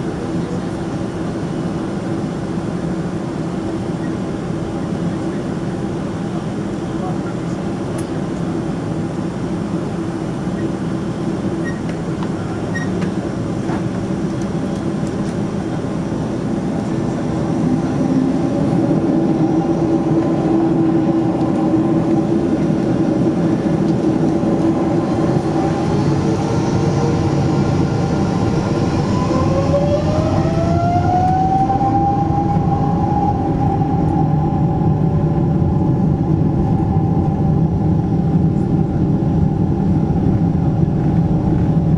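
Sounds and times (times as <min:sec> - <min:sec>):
jet engines humming and whining: 0:00.0 - 0:41.9.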